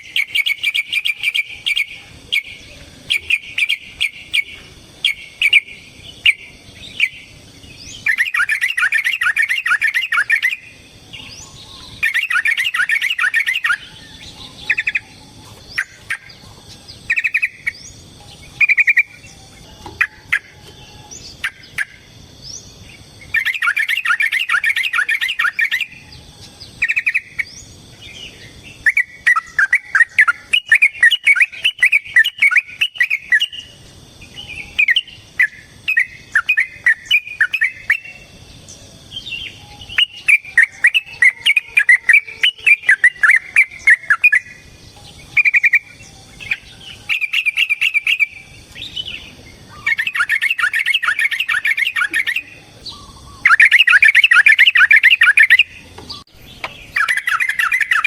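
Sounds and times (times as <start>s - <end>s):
bird chattering calls: 0.0s - 58.0s.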